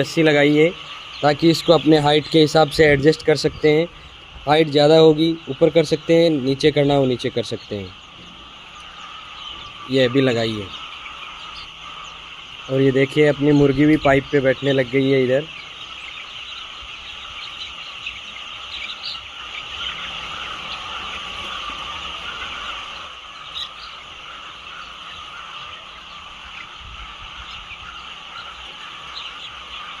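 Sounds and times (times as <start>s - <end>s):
chorus of small animal chirps: 0.0s - 30.0s.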